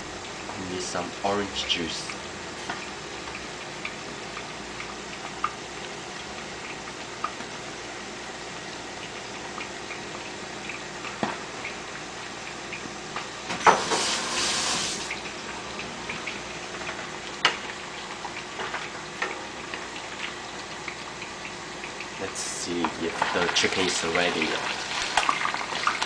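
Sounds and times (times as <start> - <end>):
chicken sizzling in frying oil: 0.0 - 26.0.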